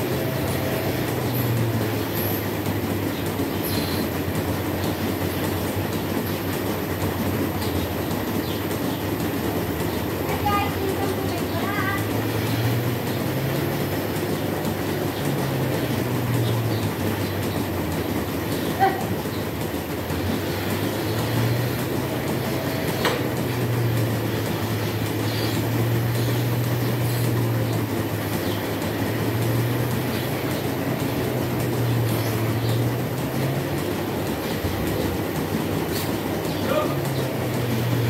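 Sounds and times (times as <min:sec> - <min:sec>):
milking machine rumble: 0:00.0 - 0:38.0.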